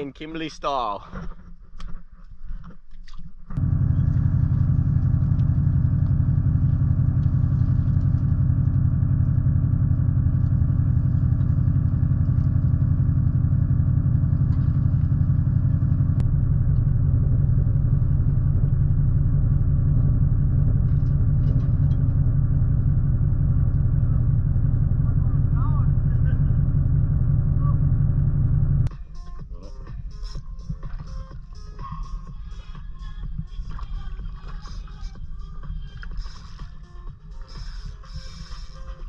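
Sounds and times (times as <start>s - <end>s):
engine running steadily: 3.5s - 39.0s.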